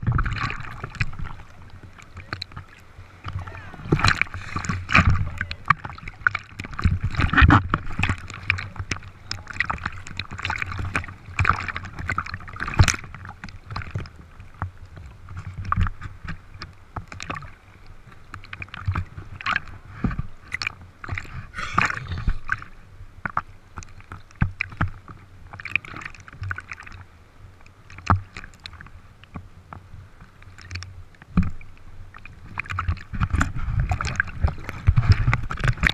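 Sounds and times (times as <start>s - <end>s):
sea water splashing: 0.0s - 35.9s.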